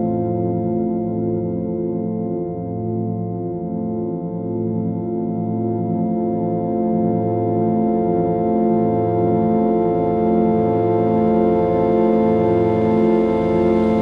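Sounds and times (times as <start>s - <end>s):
meditation drone music: 0.0s - 14.0s.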